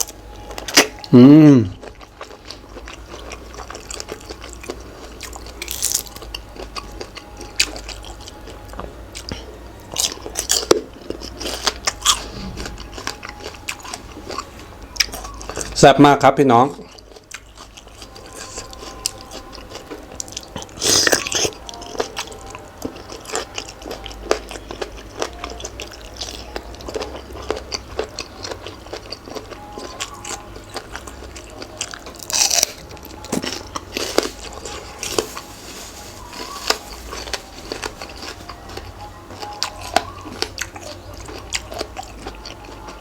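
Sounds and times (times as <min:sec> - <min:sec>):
person chewing crunchy food: 0:00.0 - 0:15.8, 0:16.8 - 0:43.0.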